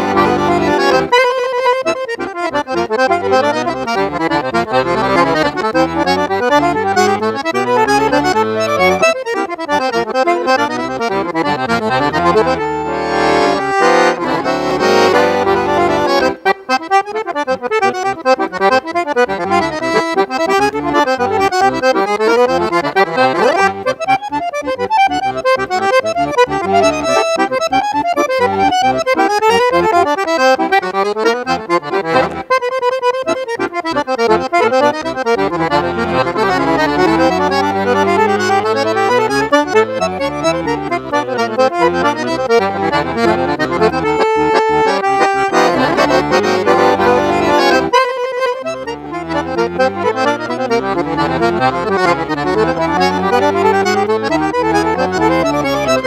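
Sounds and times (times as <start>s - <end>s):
piano accordion playing: 0.0s - 56.0s.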